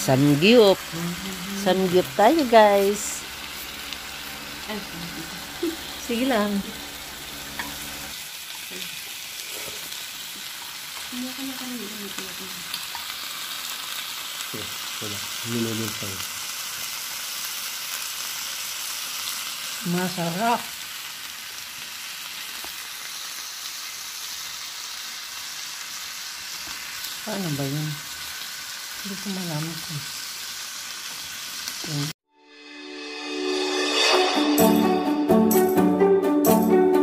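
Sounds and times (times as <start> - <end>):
meat sizzling in oil: 0.0 - 32.2.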